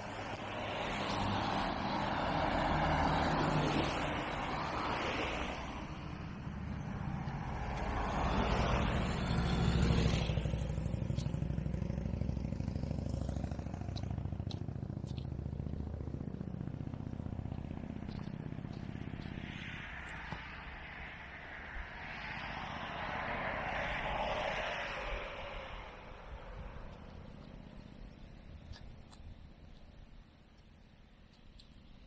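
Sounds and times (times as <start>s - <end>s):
low engine rumble: 0.0s - 22.1s, 24.8s - 32.0s
vehicles passing by: 0.0s - 32.0s.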